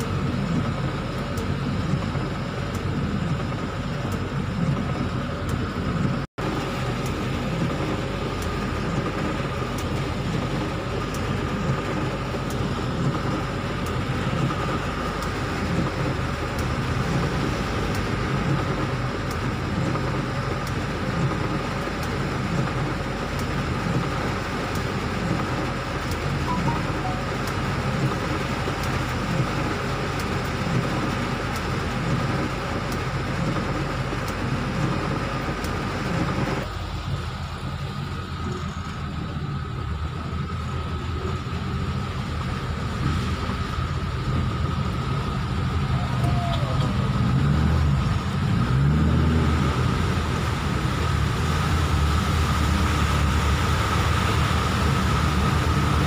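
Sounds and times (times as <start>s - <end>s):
car engine drone: 0.0s - 56.0s
tyres hissing on wet road: 0.0s - 56.0s.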